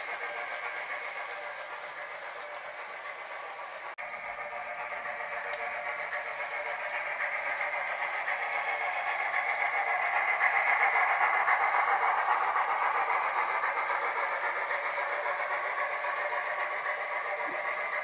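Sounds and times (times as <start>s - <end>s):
model steam locomotive running: 0.0s - 18.0s.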